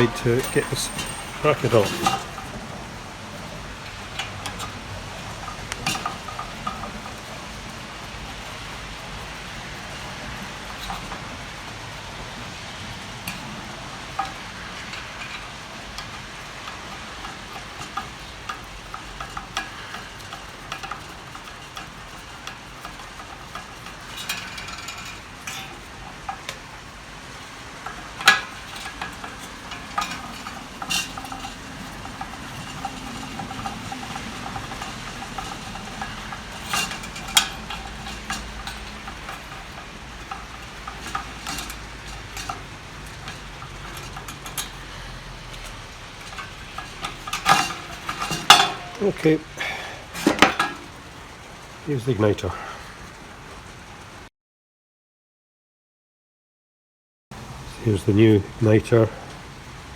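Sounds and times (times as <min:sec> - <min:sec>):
hand tool clicks and metal clinks: 0:00.0 - 0:50.9
steady background hiss: 0:00.0 - 0:54.2.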